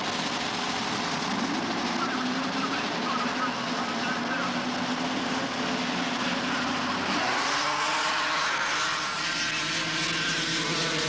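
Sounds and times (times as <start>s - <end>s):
snowmobile engines revving: 0.0s - 11.0s.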